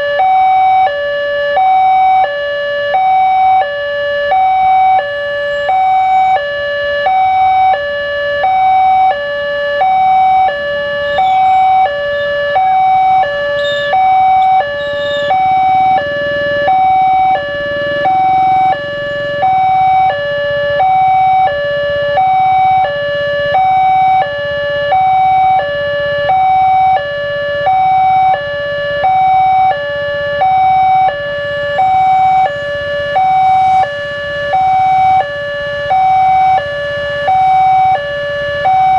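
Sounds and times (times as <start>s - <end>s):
level crossing alarm tone: 0.0s - 38.9s.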